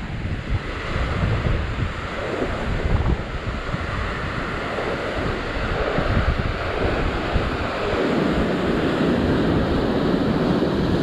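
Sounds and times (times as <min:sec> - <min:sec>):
ocean surf against rocks: 0:00.0 - 0:11.0
wind buffeting microphone: 0:00.0 - 0:11.0.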